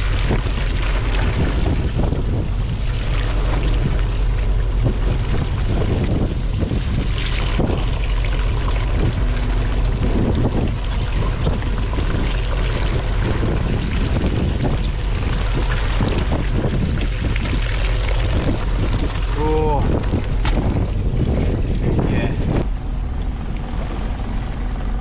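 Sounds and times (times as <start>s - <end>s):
boat engine running: 0.0s - 25.0s
wind on microphone: 0.0s - 25.0s.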